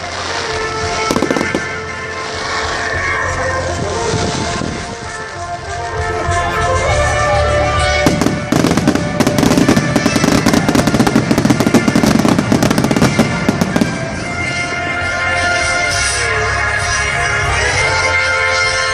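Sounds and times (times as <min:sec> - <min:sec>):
fireworks bangs and crackles: 0:00.0 - 0:18.9
music: 0:00.0 - 0:18.9.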